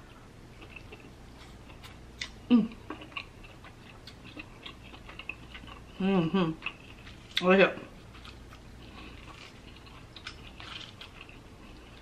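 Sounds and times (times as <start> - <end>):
person chewing wetly: 0.6 - 6.0, 6.6 - 7.4, 8.1 - 12.0.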